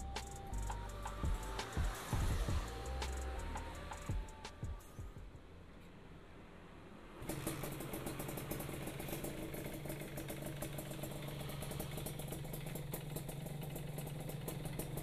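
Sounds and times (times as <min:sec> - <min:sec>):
two-stroke engine idling: 0:00.0 - 0:05.2, 0:07.2 - 0:15.0.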